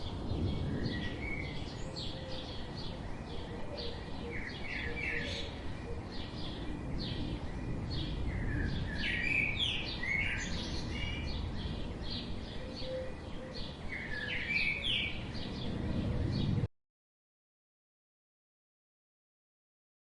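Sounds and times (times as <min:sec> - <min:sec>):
songbirds chirping: 0:00.0 - 0:16.7.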